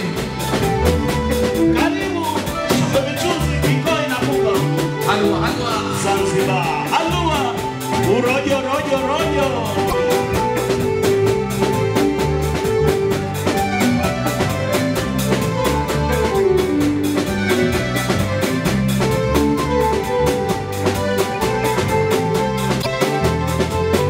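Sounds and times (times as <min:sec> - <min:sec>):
drum kit beat: 0:00.0 - 0:24.0
electric bass: 0:00.0 - 0:24.0
electric guitar: 0:00.0 - 0:24.0.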